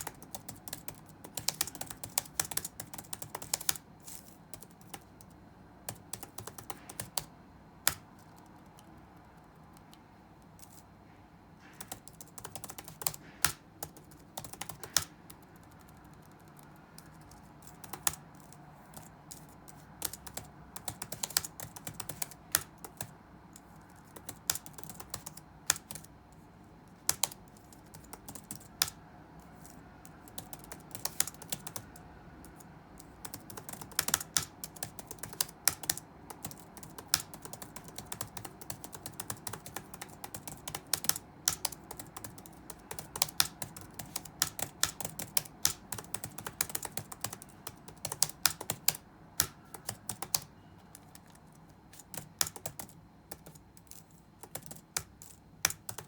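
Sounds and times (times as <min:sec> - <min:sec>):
typing on computer keyboard: 0:00.0 - 0:10.8, 0:11.6 - 0:56.0
faint low room hum: 0:00.0 - 0:56.0.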